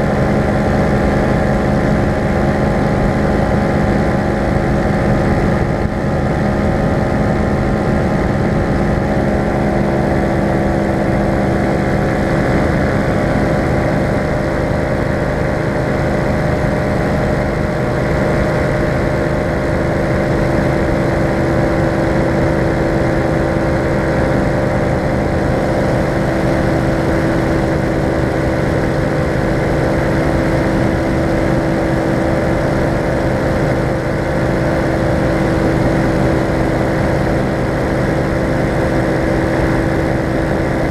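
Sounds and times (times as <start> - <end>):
paramotor engine and propeller drone: 0.0 - 40.9.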